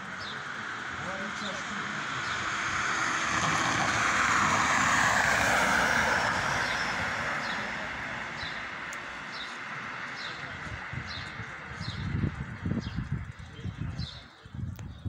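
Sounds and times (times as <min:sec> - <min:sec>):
vehicle passing: 0:00.0 - 0:13.0
birds chirping: 0:00.0 - 0:15.0.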